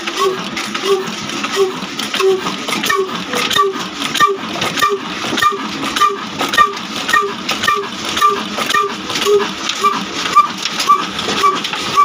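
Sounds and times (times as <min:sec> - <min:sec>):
diesel engine knocking slowly: 0:00.0 - 0:12.0.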